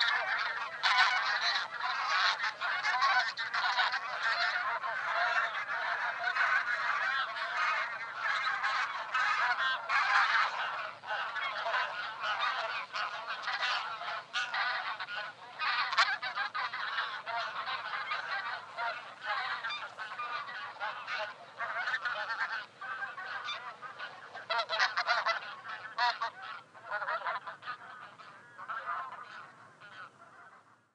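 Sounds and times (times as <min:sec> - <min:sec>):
flock of geese honking: 0:00.0 - 0:30.9.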